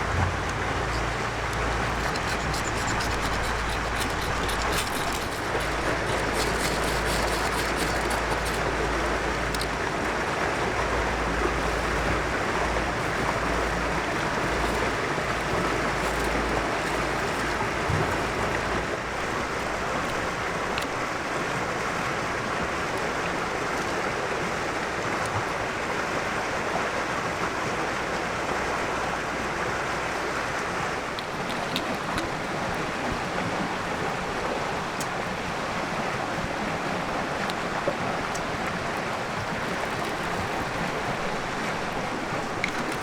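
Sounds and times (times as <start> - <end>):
river water flowing: 0.0 - 43.0.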